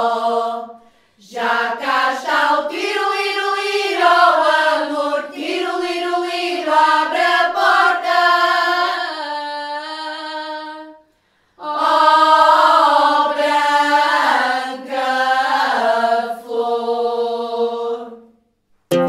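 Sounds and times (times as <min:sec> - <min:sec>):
women's choir singing unaccompanied: 0:00.0 - 0:18.4.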